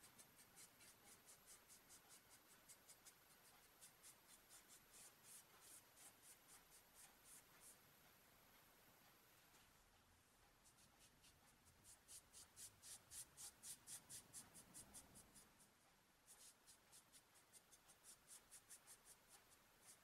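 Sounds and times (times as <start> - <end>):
foam brush scratchy strokes: 0.0 - 7.8, 10.6 - 20.0.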